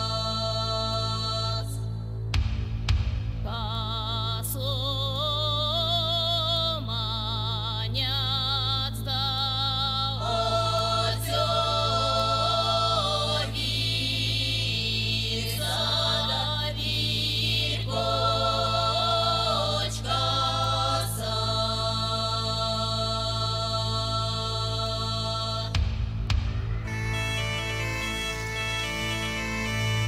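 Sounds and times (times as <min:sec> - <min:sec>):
women's choir singing folk song: 0:00.0 - 0:02.1, 0:03.5 - 0:26.4.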